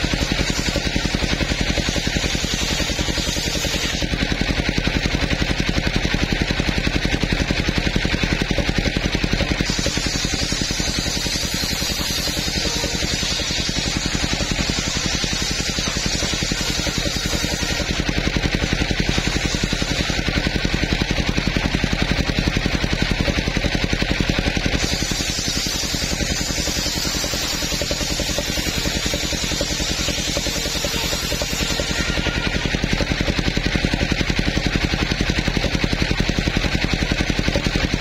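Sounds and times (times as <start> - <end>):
circular saw blade cutting wood: 0.0 - 38.0
engine pulsing: 0.0 - 38.0.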